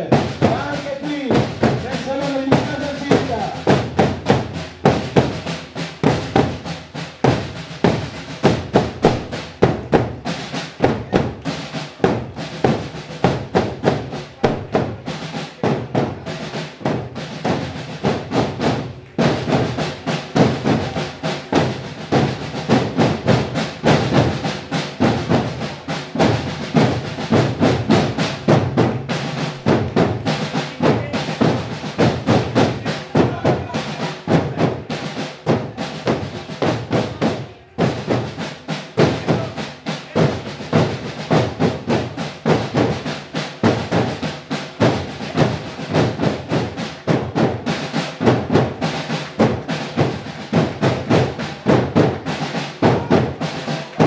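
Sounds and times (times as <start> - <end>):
marching drums beat: 0.0 - 54.0.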